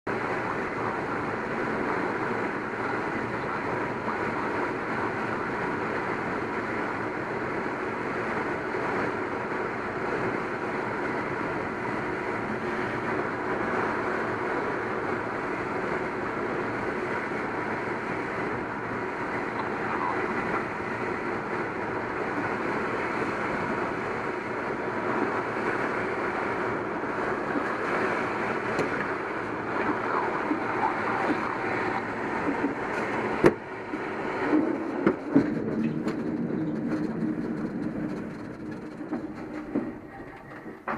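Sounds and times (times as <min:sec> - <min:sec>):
air rushing past glider cockpit: 0:00.1 - 0:40.9.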